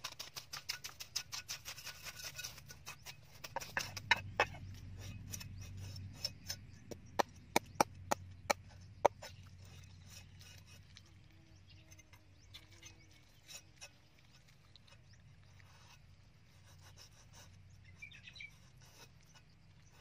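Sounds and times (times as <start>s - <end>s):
knife scraping fish scales: 0.0s - 7.7s, 8.5s - 11.0s, 11.9s - 15.0s, 15.6s - 20.0s.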